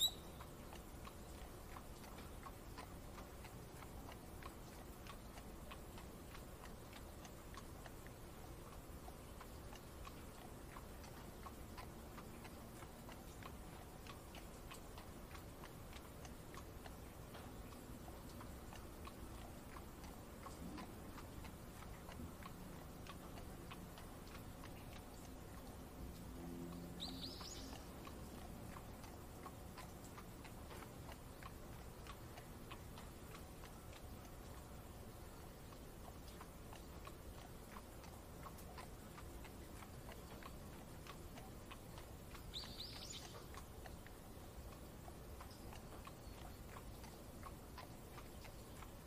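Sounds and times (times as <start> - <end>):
low steady rumble: 0.0 - 49.0
raindrops ticking on carriage: 0.0 - 49.0.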